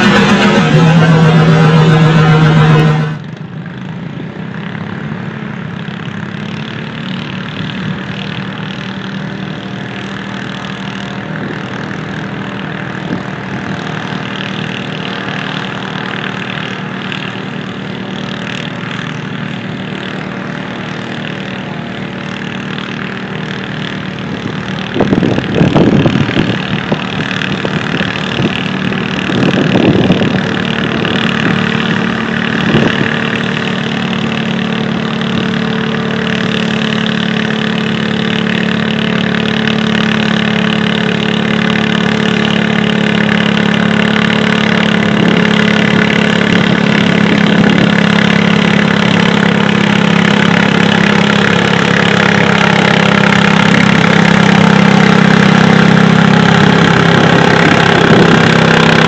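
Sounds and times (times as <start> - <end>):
engine revving: 0.0 - 3.5, 5.8 - 59.0
tractor engines idling: 0.0 - 59.0.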